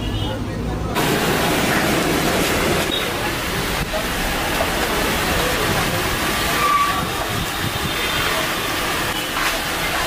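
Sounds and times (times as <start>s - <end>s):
faint voices: 0.0s - 10.0s
food stall background din: 0.0s - 10.0s.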